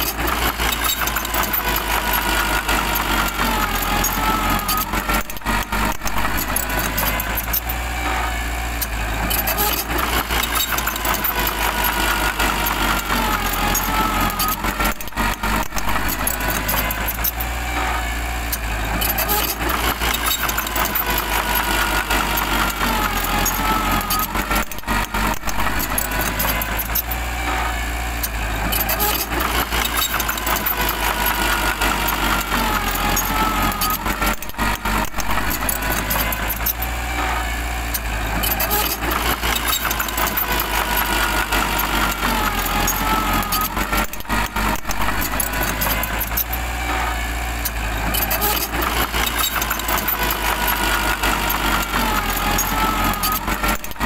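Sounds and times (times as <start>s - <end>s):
bulldozer engine under load: 0.0s - 54.0s.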